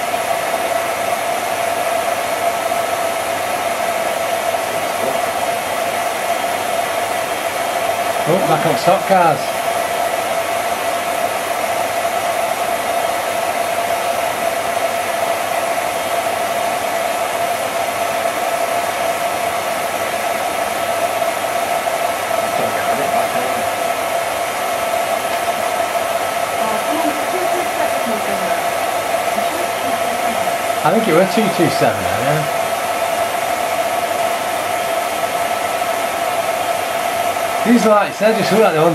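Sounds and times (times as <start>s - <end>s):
film projector motor whirring: 0.0s - 38.9s.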